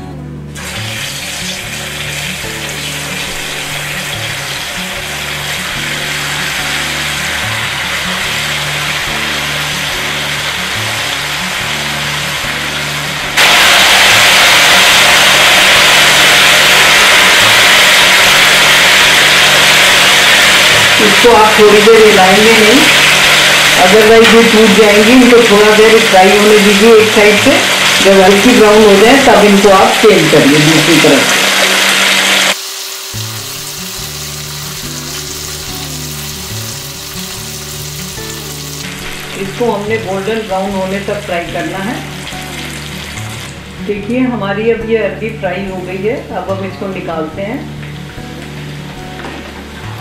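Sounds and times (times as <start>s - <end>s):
soft background music: 0.0s - 13.4s, 18.7s - 31.3s, 33.1s - 50.0s
deep-frying sizzle in hot oil: 0.6s - 39.7s, 40.4s - 43.6s.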